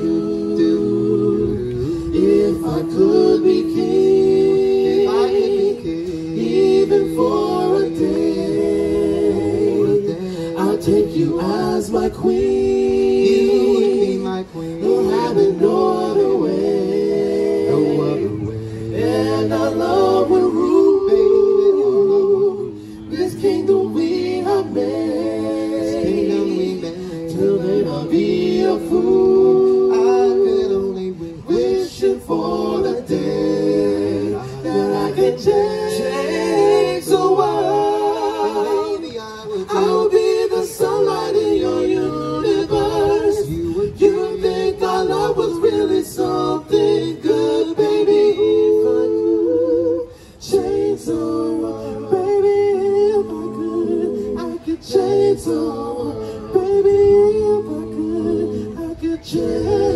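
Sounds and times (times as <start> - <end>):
a cappella group singing harmonies: 0.0 - 59.9.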